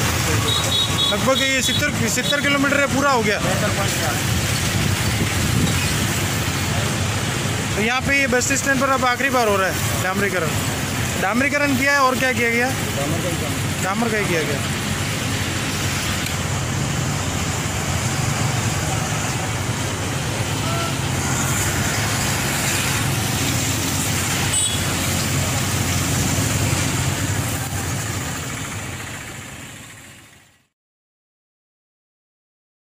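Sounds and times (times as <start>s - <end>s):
motorcycles passing: 0.0s - 30.4s
road traffic: 0.0s - 30.8s
tractor engine running: 1.8s - 30.7s.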